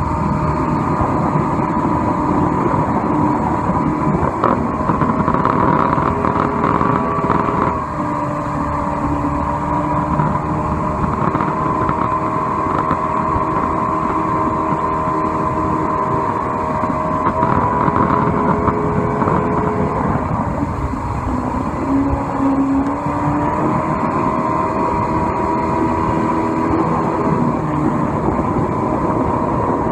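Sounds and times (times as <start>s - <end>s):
outboard motor running: 0.0s - 29.9s
water rushing: 0.0s - 29.9s.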